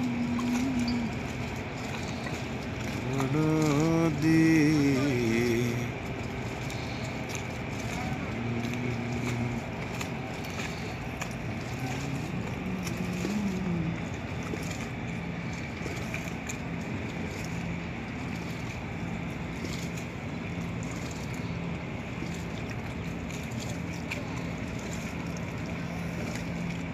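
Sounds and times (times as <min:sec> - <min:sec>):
boat engine drone: 0:00.0 - 0:26.9
water noise: 0:00.0 - 0:26.9
wind: 0:00.0 - 0:26.9.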